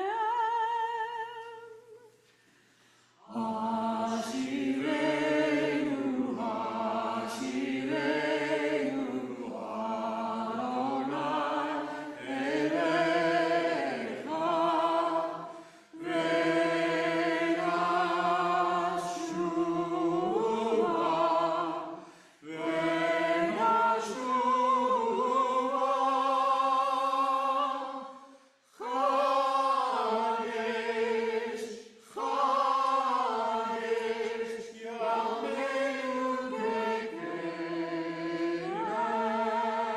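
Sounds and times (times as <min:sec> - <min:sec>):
group of voices singing: 0:03.2 - 0:39.9.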